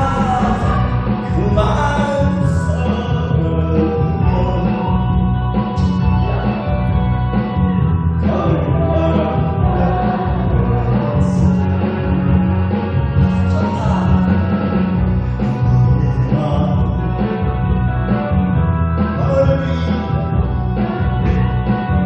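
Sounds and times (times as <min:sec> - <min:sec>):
person singing: 0:00.0 - 0:07.3, 0:08.2 - 0:14.7, 0:15.4 - 0:17.8, 0:19.1 - 0:20.5
repeating bass line: 0:00.0 - 0:22.0.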